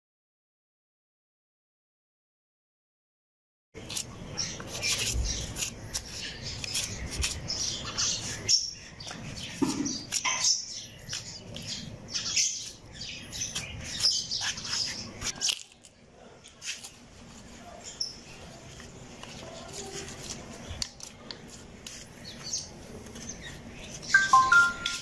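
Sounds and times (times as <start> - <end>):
small birds chirping: 3.8 - 25.0.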